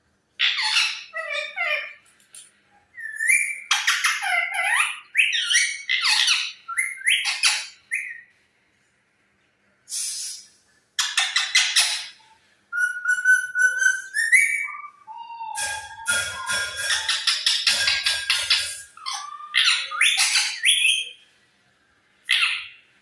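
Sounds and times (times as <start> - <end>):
parrot whistles and squawks: 0.4 - 2.0, 2.9 - 8.2, 10.0 - 21.2, 22.3 - 22.8.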